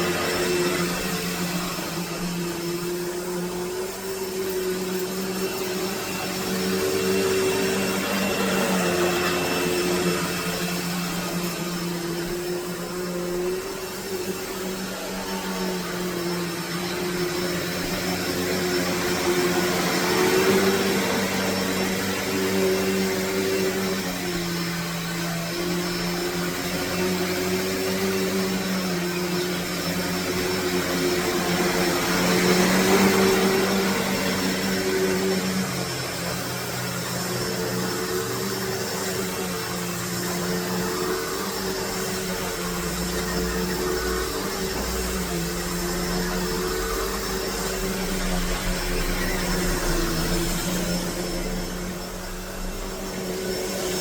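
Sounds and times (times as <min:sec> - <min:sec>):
upright vacuum cleaner running: 0:00.0 - 0:54.0.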